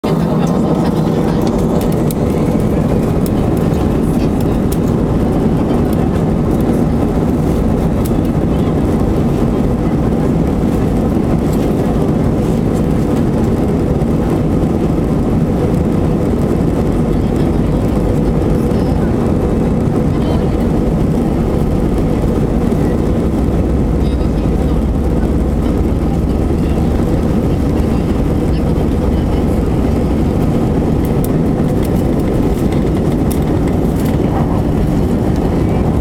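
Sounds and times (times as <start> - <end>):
jet engine rumble in cabin: 0.0 - 36.0.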